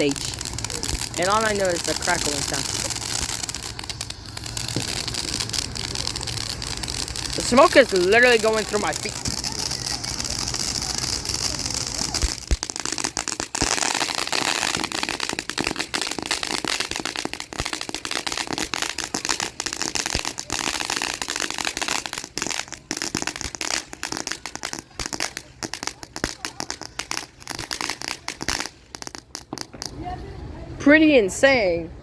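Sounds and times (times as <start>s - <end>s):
firework fountain hissing spray: 0.0s - 30.2s
firework rapid crackle: 0.0s - 30.2s.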